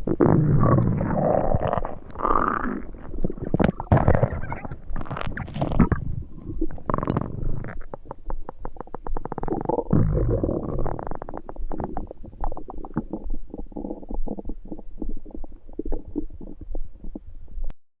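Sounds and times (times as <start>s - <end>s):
deep stomach rumble: 0.0s - 17.8s
stomach gurgling: 0.0s - 17.8s.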